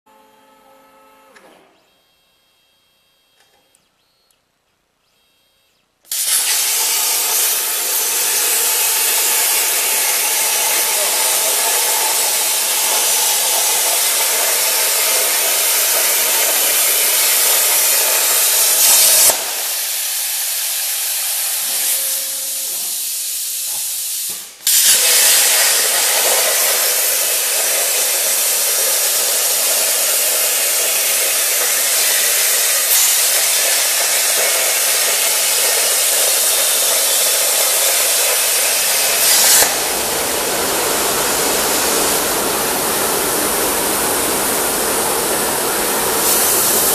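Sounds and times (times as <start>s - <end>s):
plasma torch cutting hiss: 6.1s - 46.9s.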